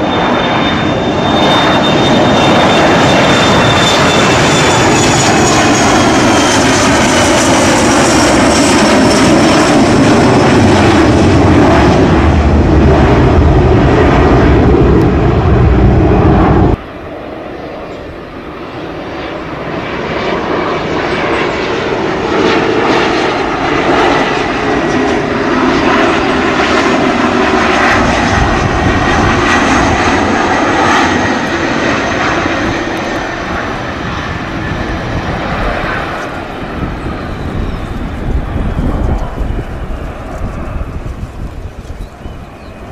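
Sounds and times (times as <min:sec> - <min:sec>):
jet engine roar and whine: 0:00.0 - 0:42.9
quieter jet whine: 0:00.0 - 0:42.9.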